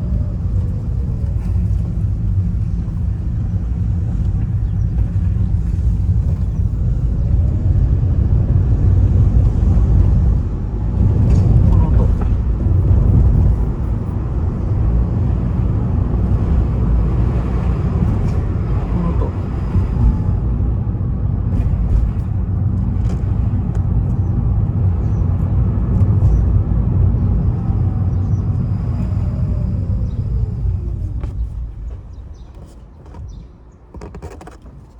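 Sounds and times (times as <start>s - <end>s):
road and tyre noise: 0.0s - 34.9s.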